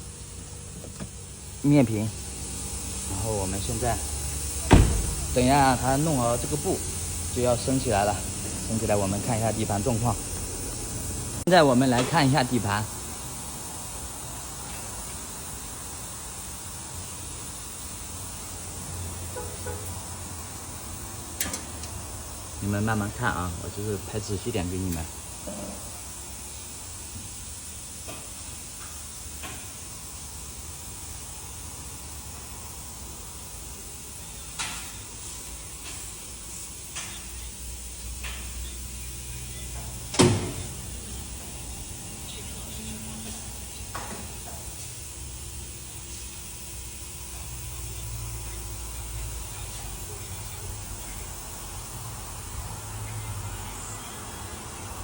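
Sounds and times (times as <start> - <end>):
workshop background hiss: 0.0 - 55.0.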